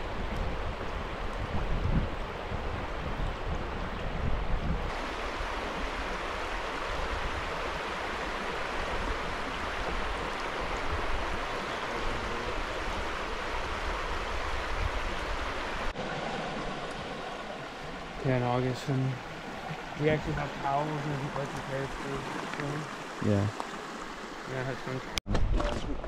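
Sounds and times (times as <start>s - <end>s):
creek water rushing over rocks: 0.0s - 25.2s.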